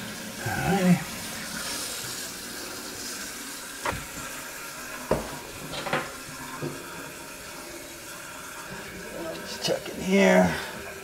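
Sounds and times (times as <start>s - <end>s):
toilet tank filling with water: 0.0s - 11.0s.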